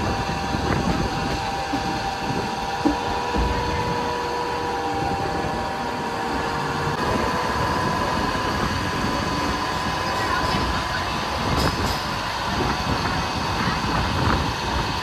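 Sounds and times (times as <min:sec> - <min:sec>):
electric train hum: 0:00.0 - 0:15.0
whining tones: 0:00.0 - 0:15.0.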